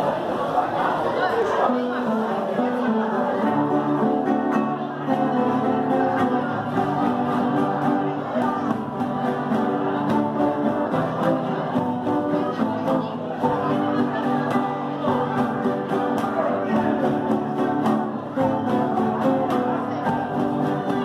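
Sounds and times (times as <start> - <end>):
strummed guitars: 1.5 - 21.0
cajon beat: 1.7 - 21.0
group of voices singing: 1.9 - 21.0.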